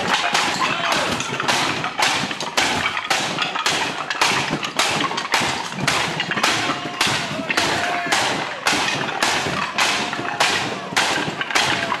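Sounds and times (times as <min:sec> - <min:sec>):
wooden boards snapping: 0:00.0 - 0:12.0.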